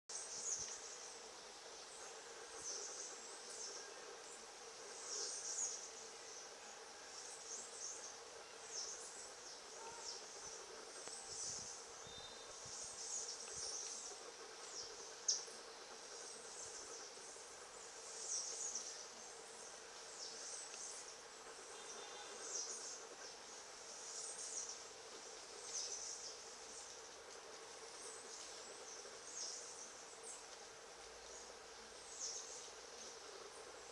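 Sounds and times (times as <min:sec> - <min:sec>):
faint steady hum: 0:00.1 - 0:33.9
insects chirping: 0:00.1 - 0:33.9.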